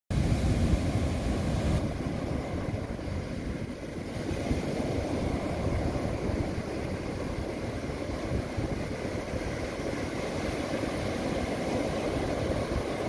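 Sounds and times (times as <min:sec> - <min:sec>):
waves breaking on beach: 0:00.1 - 0:13.0
wind buffeting microphone: 0:00.1 - 0:13.0.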